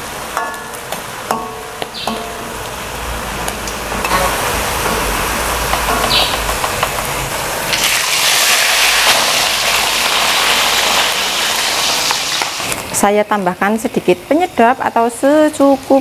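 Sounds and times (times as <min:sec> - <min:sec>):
fish frying in oil: 0:00.0 - 0:16.0
oil sizzling in a wok: 0:00.0 - 0:16.0.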